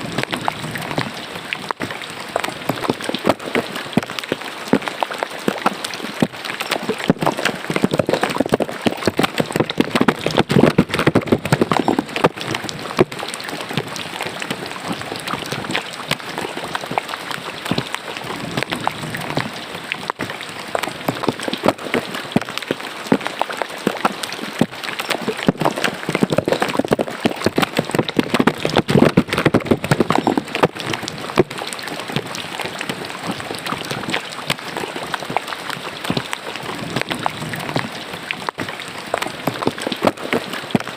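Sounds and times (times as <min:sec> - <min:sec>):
rain pattering: 0:00.0 - 0:40.9
rainwater running in a gutter: 0:00.0 - 0:40.9.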